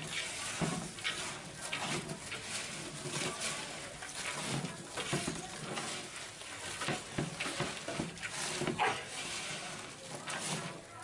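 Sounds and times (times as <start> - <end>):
hand mixing onions in a pot: 0.0 - 11.0.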